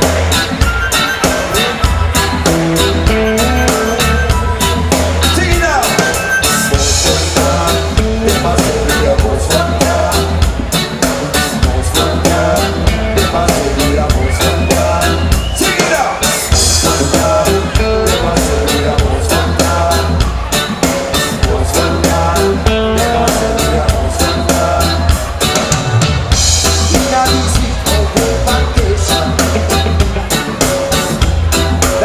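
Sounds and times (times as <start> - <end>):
deep bass line: 0.0 - 32.0
live reggae band playing: 0.0 - 32.0.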